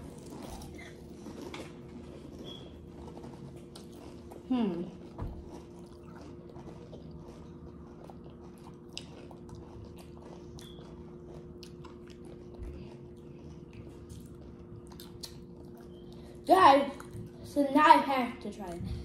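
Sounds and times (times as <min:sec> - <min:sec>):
chewing and crunching: 0:00.0 - 0:17.6
steady low hum: 0:00.0 - 0:19.0.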